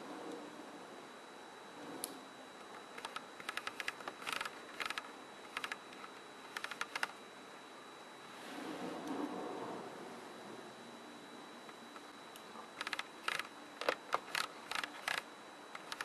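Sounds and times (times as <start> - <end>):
faint high-pitched whine and hiss: 0.0 - 16.0.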